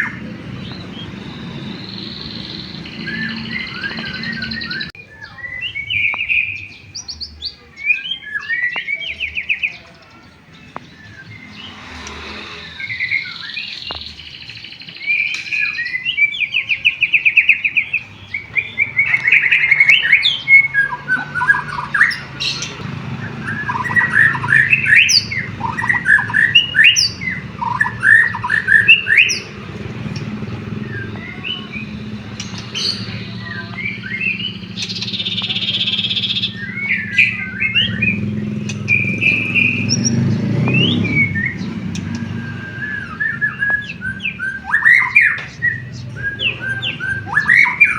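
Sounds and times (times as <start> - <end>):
songbird singing trills and whistles: 0.0 - 47.9.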